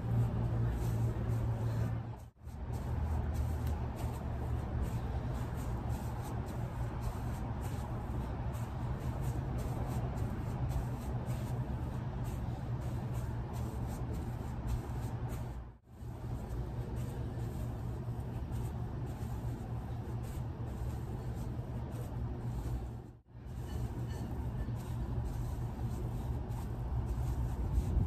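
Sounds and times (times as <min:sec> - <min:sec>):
bare feet and hands on concrete: 0:00.0 - 0:28.0
steady low hum: 0:00.0 - 0:28.0.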